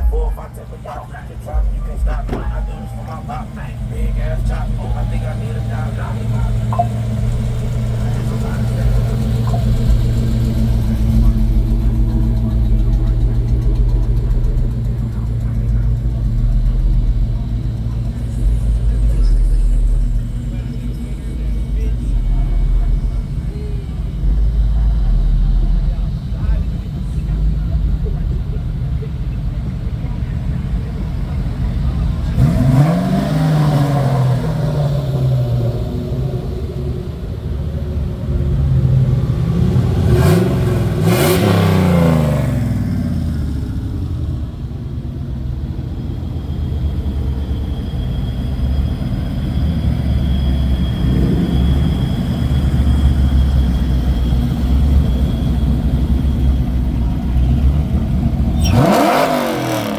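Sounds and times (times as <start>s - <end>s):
car engines revving: 0.0s - 59.9s
low engine rumble: 0.0s - 59.9s.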